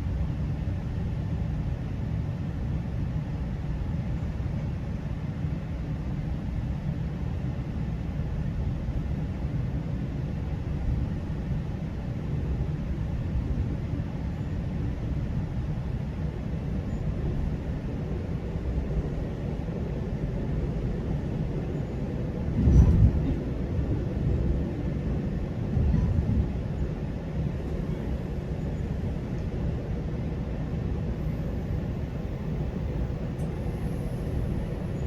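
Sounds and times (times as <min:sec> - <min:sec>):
train rumbling along track: 0:00.0 - 0:35.0.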